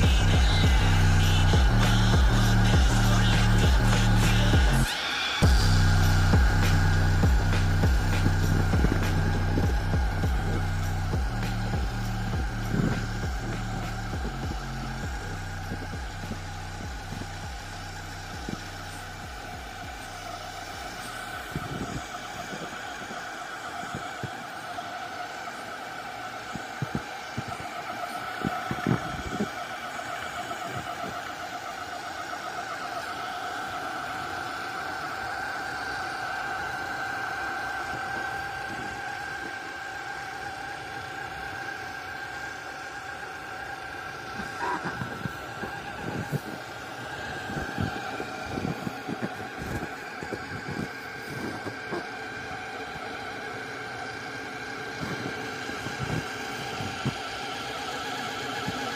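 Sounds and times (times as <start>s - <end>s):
electric motor and gears whining: 0.0s - 58.9s.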